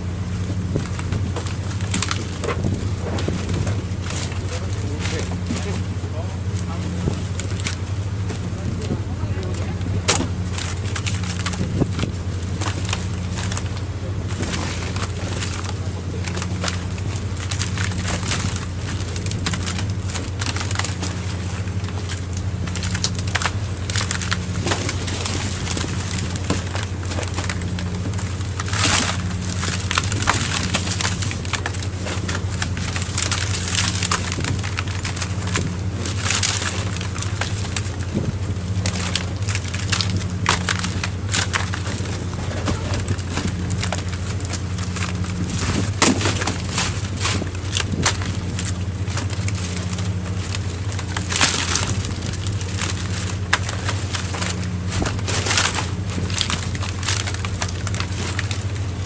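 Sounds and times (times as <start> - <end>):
boat engine drone: 0.0 - 59.0
crackling and clattering: 0.2 - 59.0.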